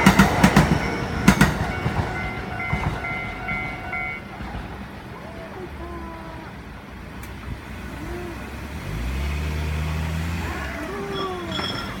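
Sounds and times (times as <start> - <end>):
outdoor traffic noise: 0.0 - 12.0
vehicle engine hum: 0.0 - 12.0.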